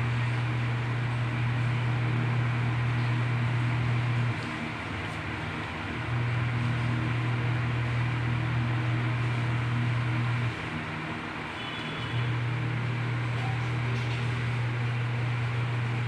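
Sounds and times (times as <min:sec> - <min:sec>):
constant noisy background: 0:00.0 - 0:16.0
low mechanical hum: 0:00.0 - 0:16.0.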